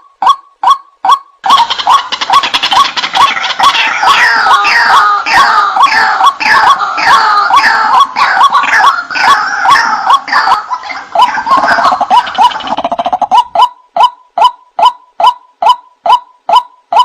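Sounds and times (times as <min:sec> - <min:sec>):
bird harsh repeated calls: 0:00.0 - 0:17.0.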